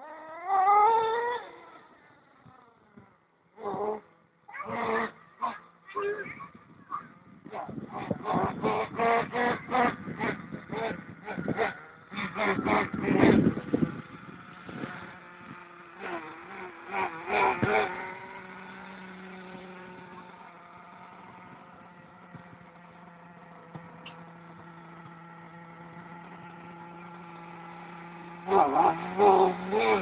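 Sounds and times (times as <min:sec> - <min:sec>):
engine buzzing drone: 0:00.0 - 0:30.0.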